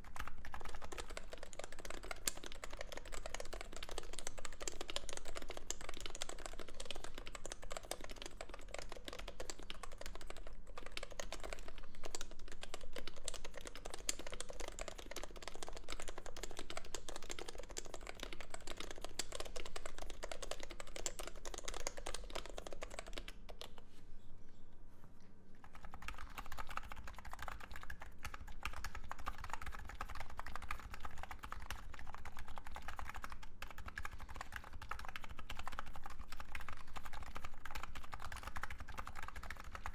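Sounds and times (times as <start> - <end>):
fast keyboard typing: 0.0 - 23.8, 25.6 - 39.9.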